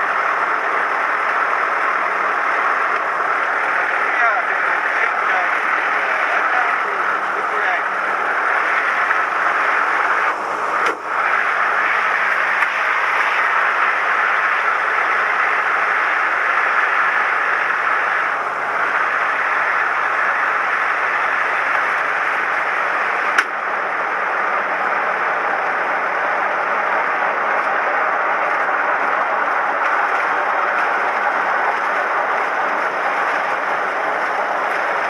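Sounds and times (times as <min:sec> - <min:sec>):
aircraft engine and propeller noise: 0:00.0 - 0:35.0.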